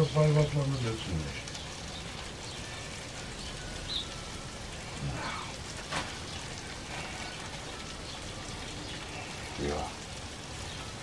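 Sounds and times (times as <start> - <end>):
food sizzling on a grill: 0.0 - 11.0.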